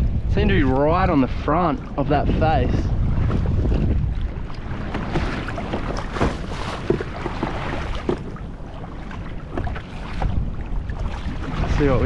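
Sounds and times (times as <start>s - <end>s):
rushing water: 0.7s - 12.0s
water splashing against kayak hull: 1.5s - 12.0s.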